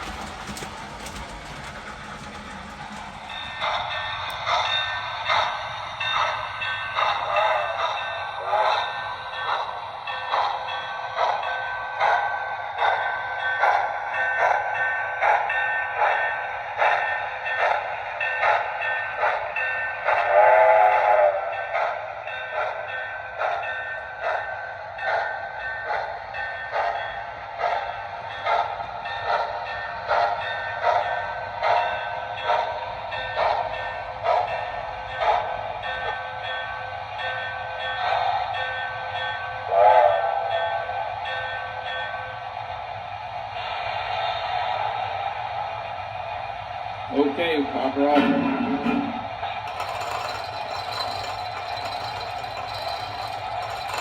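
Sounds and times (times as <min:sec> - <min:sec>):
steam locomotive chuffs: 0:00.0 - 0:54.0.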